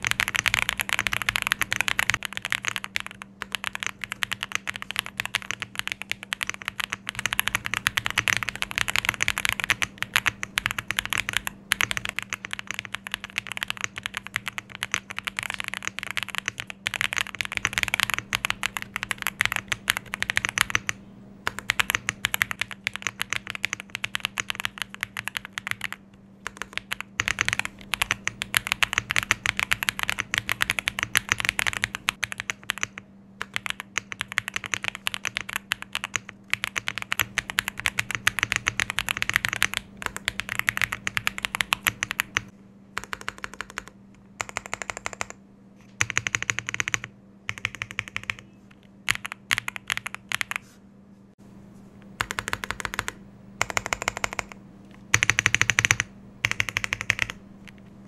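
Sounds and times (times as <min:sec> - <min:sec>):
fast typing on mechanical keyboard: 0:00.0 - 0:50.6, 0:52.2 - 0:57.8.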